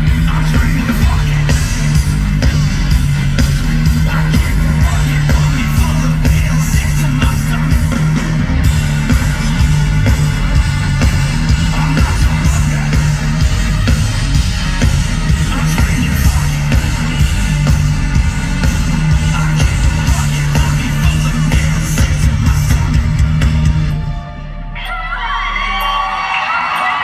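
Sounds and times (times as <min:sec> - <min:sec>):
drums: 0:00.0 - 0:27.0
rock vocals: 0:00.0 - 0:27.0.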